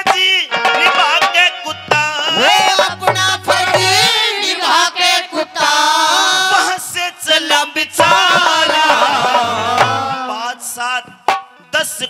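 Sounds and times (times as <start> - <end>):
man singing folk song: 0.0 - 4.6, 5.2 - 12.0
musical accompaniment: 0.0 - 6.0, 6.6 - 12.0.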